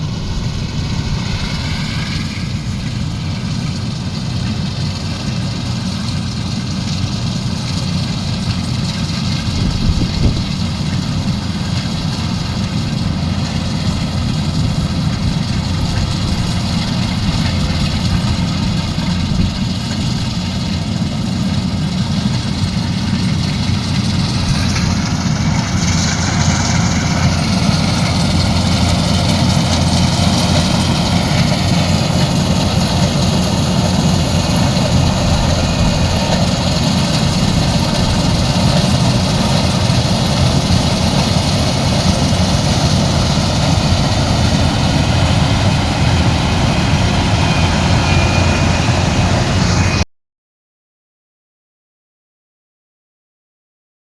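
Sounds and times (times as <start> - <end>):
combine harvester diesel engine drone: 0.0 - 50.0.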